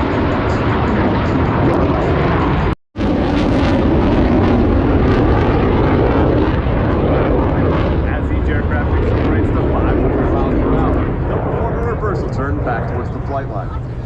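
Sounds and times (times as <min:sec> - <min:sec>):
jet noise in flight: 0:00.0 - 0:14.0.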